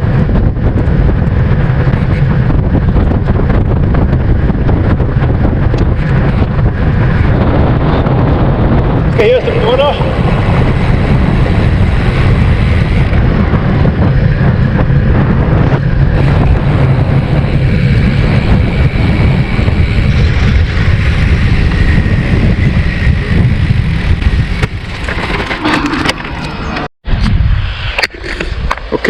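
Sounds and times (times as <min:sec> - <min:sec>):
road and tyre noise: 0:00.0 - 0:29.0
wind buffeting microphone: 0:00.0 - 0:29.0.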